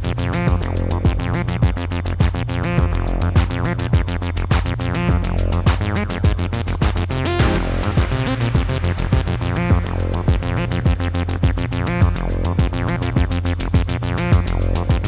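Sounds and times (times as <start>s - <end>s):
low synth bass: 0.0s - 15.0s.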